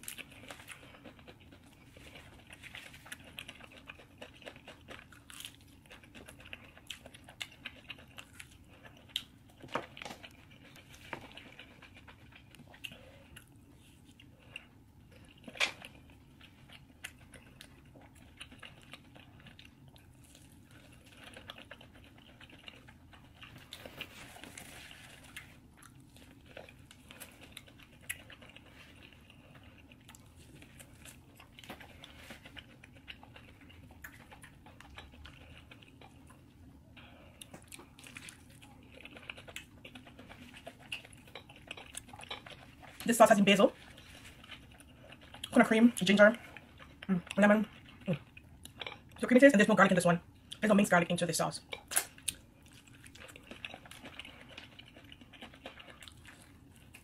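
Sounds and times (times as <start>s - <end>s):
chewing and lip smacks: 0.0s - 43.1s, 43.7s - 49.2s, 51.7s - 57.0s.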